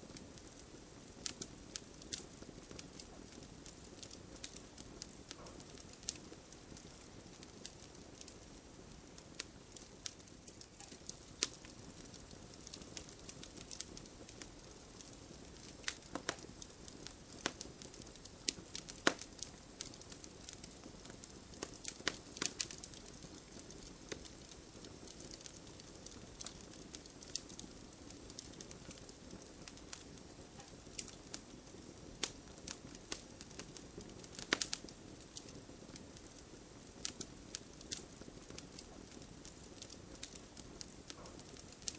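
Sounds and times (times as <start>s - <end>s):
faint steady hiss: 0.0s - 41.9s
wood fire crackling: 0.0s - 41.9s.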